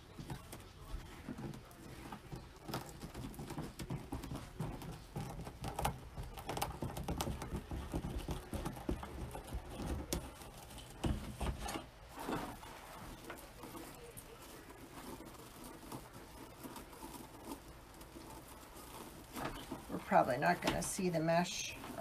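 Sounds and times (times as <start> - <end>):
mesh rustling and crinkling: 0.0 - 22.0.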